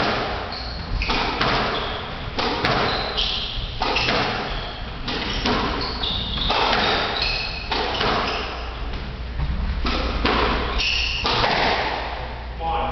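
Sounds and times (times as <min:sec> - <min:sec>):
squash ball hits: 0:00.0 - 0:09.1, 0:09.7 - 0:12.3
shoes squeaking on wooden floor: 0:00.0 - 0:11.6.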